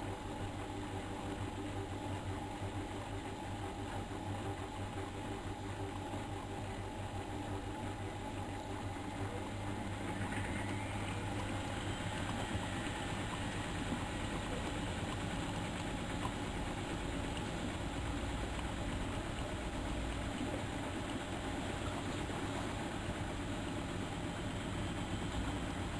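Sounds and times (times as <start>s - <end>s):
washing machine humming: 0.0s - 25.9s.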